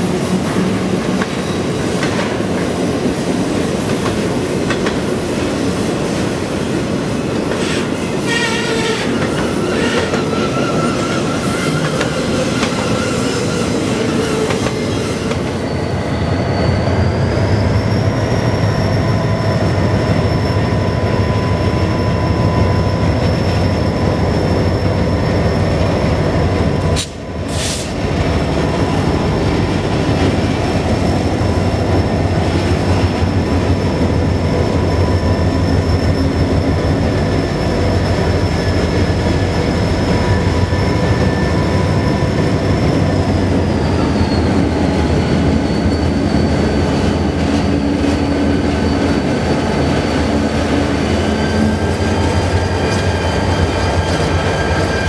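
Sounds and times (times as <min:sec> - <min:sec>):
diesel locomotive engine rumble: 0:00.0 - 0:55.0
locomotive high whine: 0:00.0 - 0:55.0.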